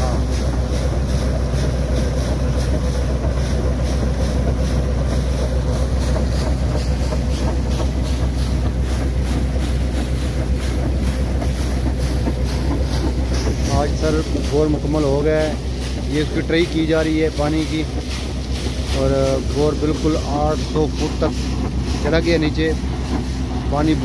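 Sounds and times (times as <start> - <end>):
engine droning: 0.0 - 24.0
water jetting and splashing: 0.0 - 24.0.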